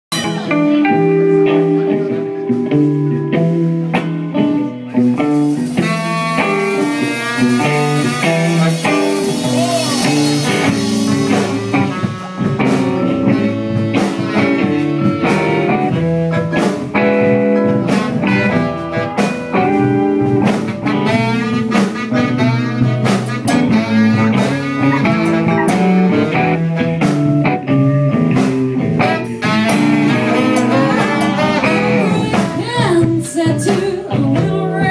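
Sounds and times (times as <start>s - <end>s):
blues band playing: 0.1s - 34.9s
drum kit beat: 0.1s - 34.9s
guitar lines: 0.1s - 34.9s.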